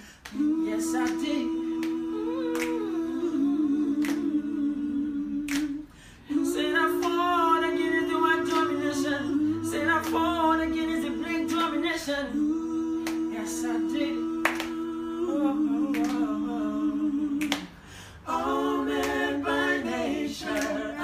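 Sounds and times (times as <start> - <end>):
a cappella group humming chords: 0.0 - 21.0
higher voice singing melody: 0.3 - 17.6.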